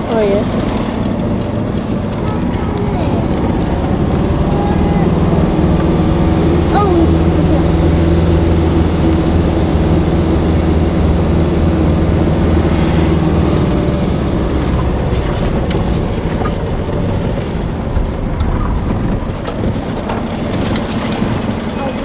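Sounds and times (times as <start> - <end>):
car engine hum: 0.0 - 22.0
road and wind rushing noise: 0.0 - 22.0.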